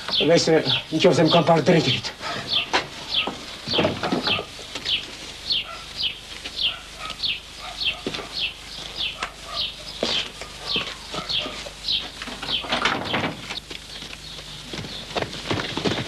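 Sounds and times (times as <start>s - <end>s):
bird chirping: 0.0s - 15.2s.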